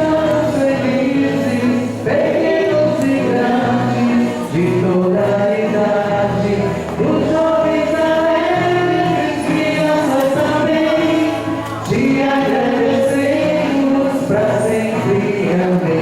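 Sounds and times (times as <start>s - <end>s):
group singing a hymn: 0.0s - 16.0s.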